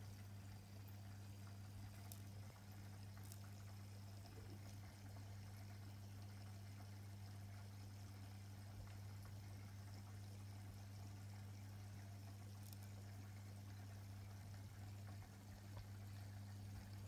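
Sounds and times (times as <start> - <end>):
aquarium pump hum: 0.0 - 17.0
water trickling and bubbling: 0.0 - 17.0.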